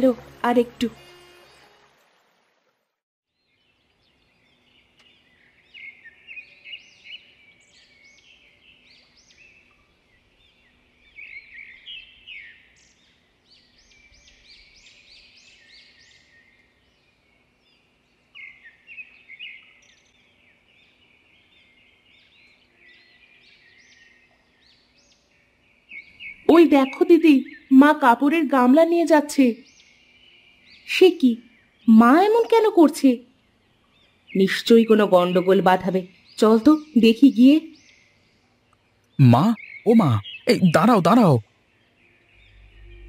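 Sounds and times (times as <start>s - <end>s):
birds chirping: 3.3s - 43.0s.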